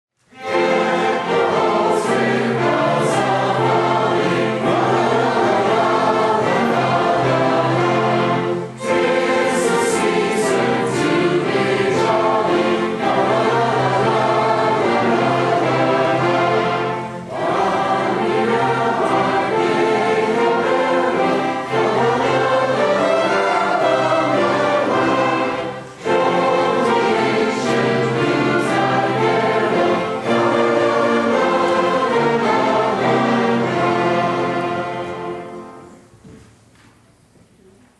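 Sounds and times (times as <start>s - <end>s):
choir singing: 0.3s - 36.1s
orchestra playing: 0.3s - 36.1s.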